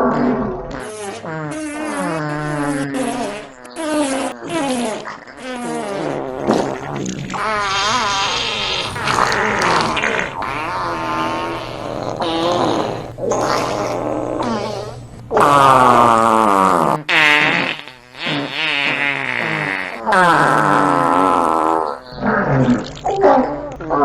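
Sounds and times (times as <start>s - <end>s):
fart sound effects: 0.0s - 24.0s.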